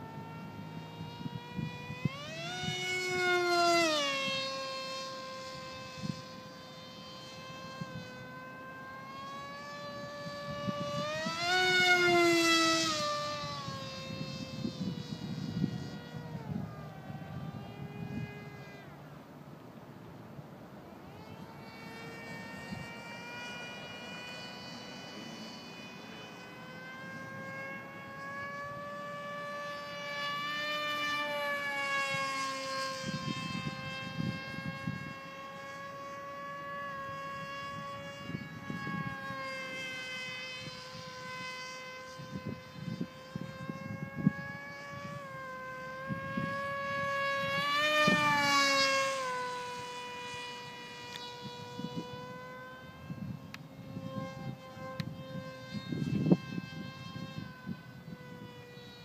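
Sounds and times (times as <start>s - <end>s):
model plane motor whining: 0.0s - 59.0s.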